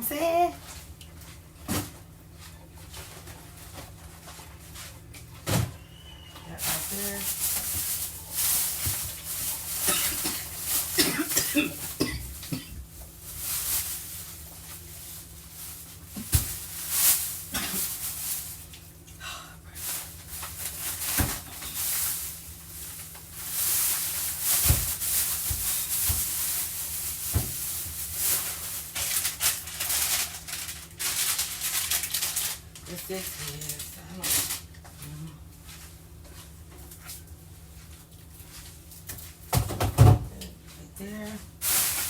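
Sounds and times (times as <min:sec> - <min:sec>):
packages rustling and crinkling: 0:00.0 - 0:19.1, 0:19.7 - 0:34.9, 0:35.6 - 0:42.0.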